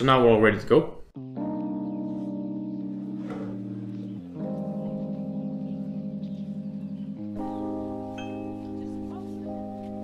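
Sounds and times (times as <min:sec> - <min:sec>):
soft background music chords: 0:01.2 - 0:10.0.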